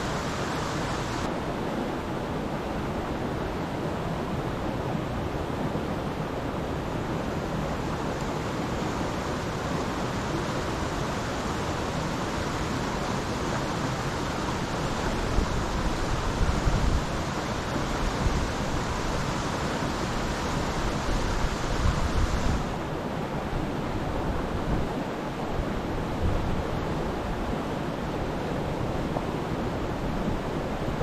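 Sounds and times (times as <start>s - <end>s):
stream water rushing: 0.0s - 31.0s.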